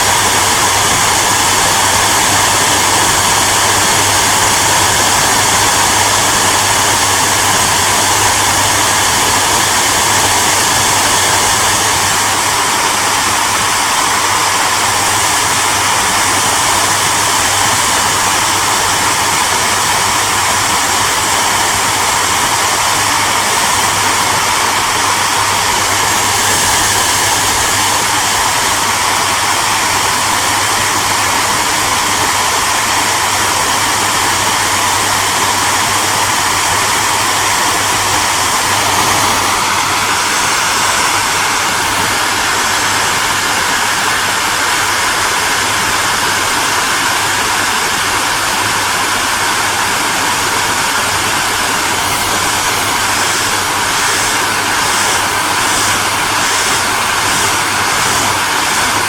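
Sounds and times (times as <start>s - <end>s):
hairdryer running: 0.0s - 59.0s.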